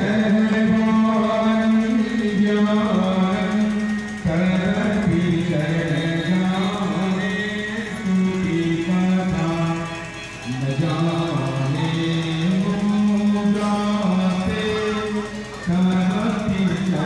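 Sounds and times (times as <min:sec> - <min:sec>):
harmonium playing devotional music: 0:00.0 - 0:17.0.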